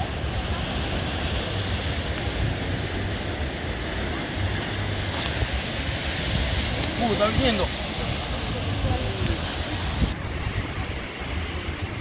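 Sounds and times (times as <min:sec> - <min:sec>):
surf washing over rocks: 0:00.0 - 0:12.0
wind rumble on microphone: 0:00.0 - 0:12.0.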